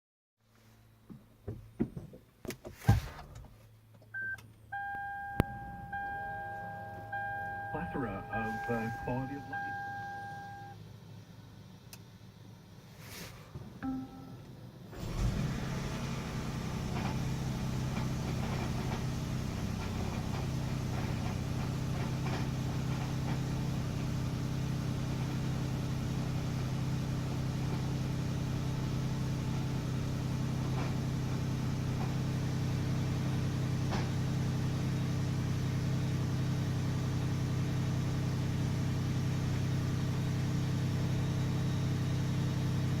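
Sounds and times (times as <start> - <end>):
car engine starting and humming: 3.0 - 43.0.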